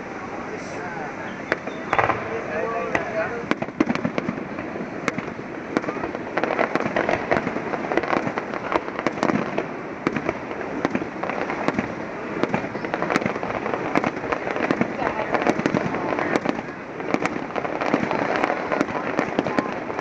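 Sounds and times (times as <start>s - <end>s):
fireworks bangs and crackles: 0.0s - 20.0s
steady noisy background: 0.0s - 20.0s.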